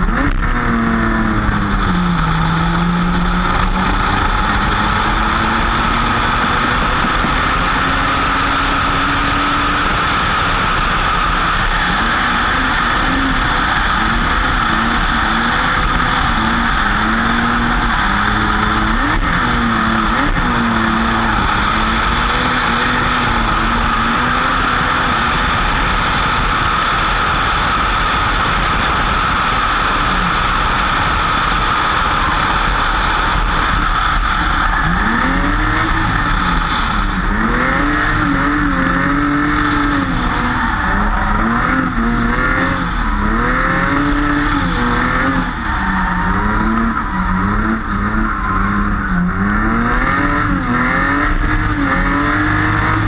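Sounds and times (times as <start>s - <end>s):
car engine revving: 0.0s - 53.0s
steady rushing noise: 0.0s - 53.0s.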